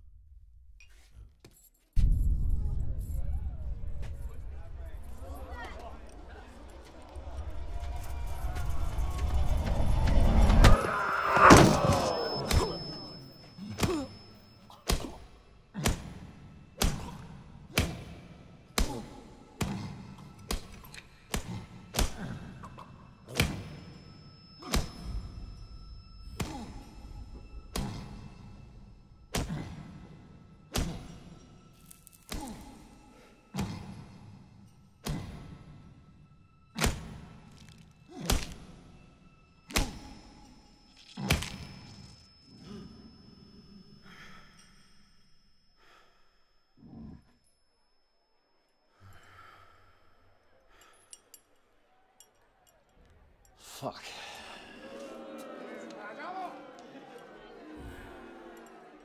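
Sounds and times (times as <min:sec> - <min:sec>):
faint background music: 0:00.9 - 0:10.7, 0:12.7 - 0:46.0, 0:46.6 - 0:59.0.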